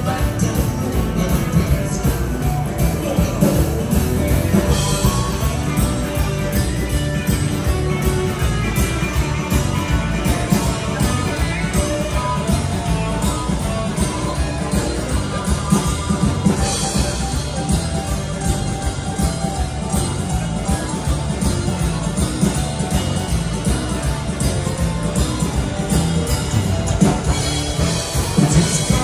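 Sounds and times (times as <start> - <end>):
bass guitar: 0.0 - 29.0
electric guitars: 0.0 - 29.0
live band music: 0.0 - 29.0
steady drum beat: 0.0 - 29.0.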